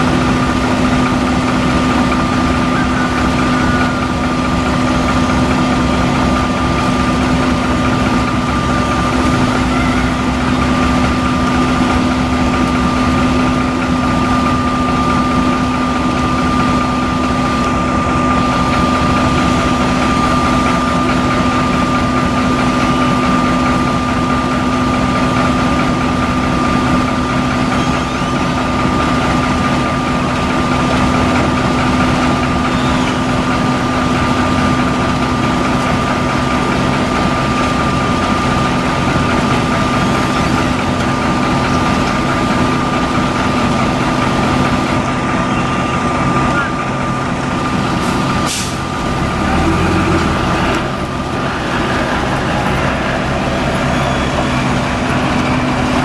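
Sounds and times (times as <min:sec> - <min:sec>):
diesel engine droning: 0:00.0 - 0:56.0
steady high whine: 0:00.0 - 0:56.0.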